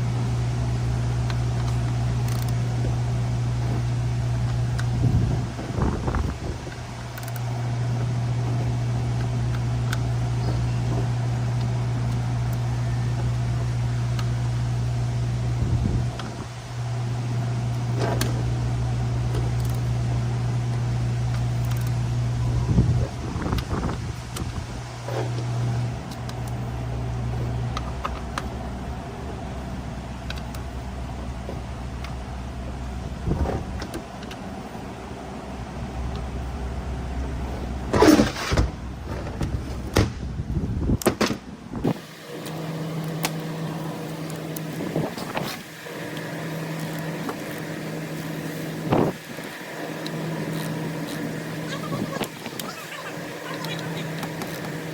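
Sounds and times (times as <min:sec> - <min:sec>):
machine humming: 0:00.0 - 0:38.0, 0:41.8 - 0:54.9.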